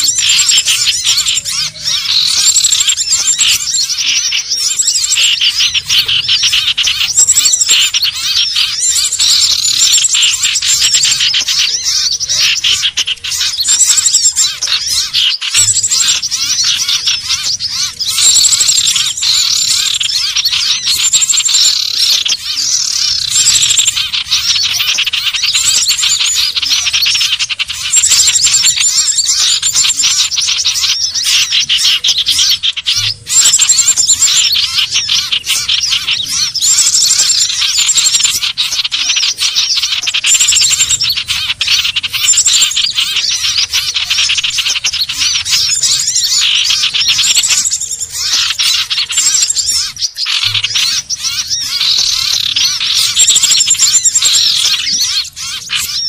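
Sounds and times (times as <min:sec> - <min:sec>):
birds chattering and whistling: 0:00.0 - 0:56.0.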